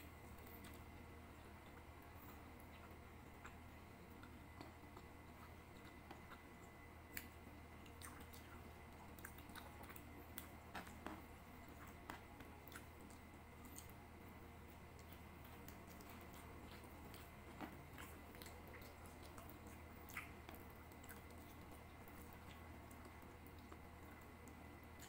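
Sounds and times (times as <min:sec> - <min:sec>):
chewing and wet mouth clicks: 0:00.0 - 0:14.0, 0:14.7 - 0:25.0
low steady hum: 0:00.0 - 0:25.0.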